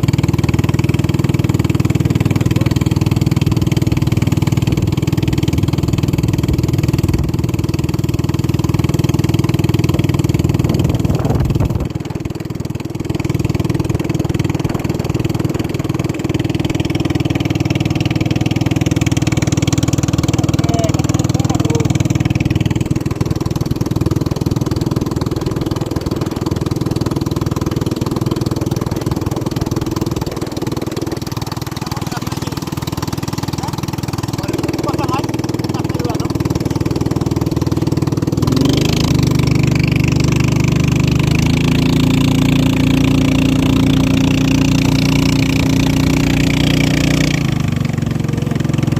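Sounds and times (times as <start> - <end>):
motorboat engine at high power: 0.0 - 48.9.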